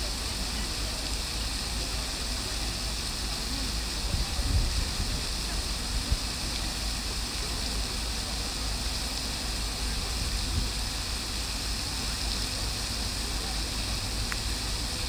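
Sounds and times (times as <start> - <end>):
fountain jets splashing into basin: 0.0 - 15.0.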